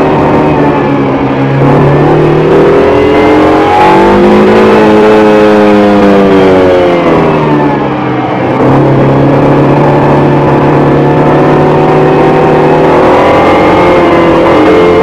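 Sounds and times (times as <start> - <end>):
car engine from inside cabin: 0.0 - 15.0.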